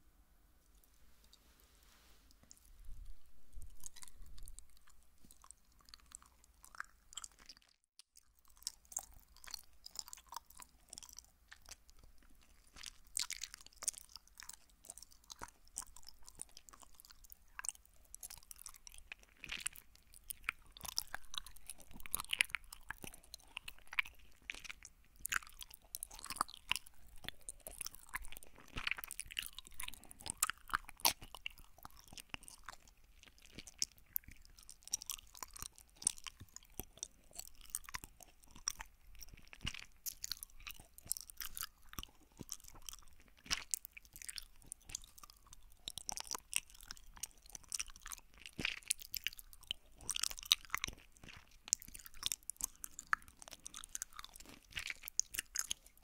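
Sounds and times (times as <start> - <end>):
chewing gummy candy: 2.3 - 56.0.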